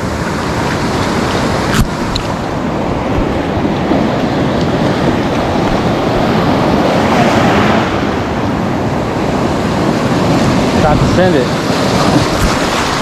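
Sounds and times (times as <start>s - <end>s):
ocean surf washing in: 0.0s - 13.0s.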